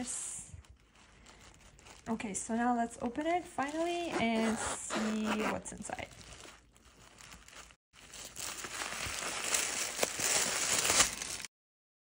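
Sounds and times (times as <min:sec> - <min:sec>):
tissue paper crinkling: 0:00.0 - 0:11.5.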